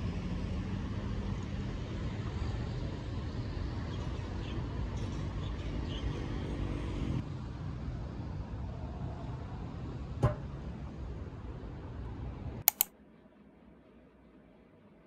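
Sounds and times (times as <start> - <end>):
faint engine hum: 0.0 - 15.0.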